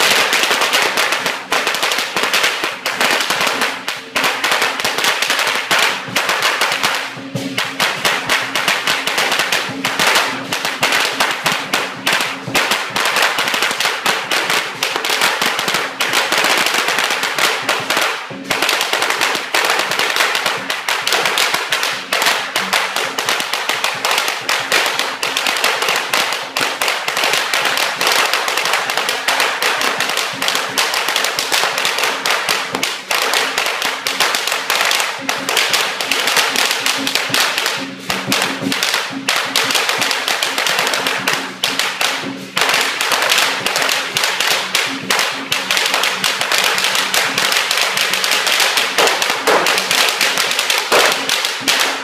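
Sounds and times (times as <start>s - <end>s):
firecrackers crackling: 0.0s - 52.0s.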